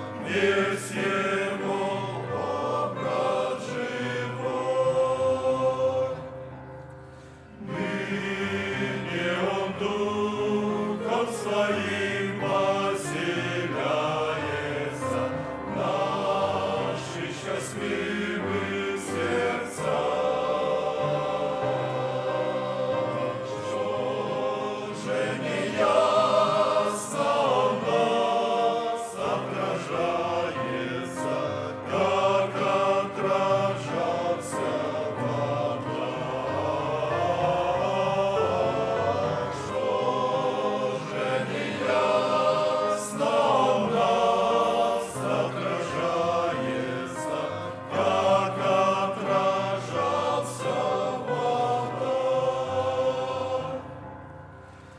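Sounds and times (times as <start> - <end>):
men's choir singing a hymn: 0.0 - 54.9.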